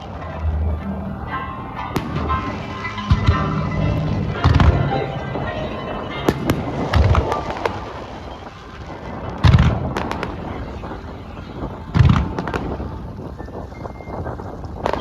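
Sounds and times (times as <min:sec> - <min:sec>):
music playing: 0:00.0 - 0:13.7
fireworks booming and crackling: 0:01.2 - 0:15.0.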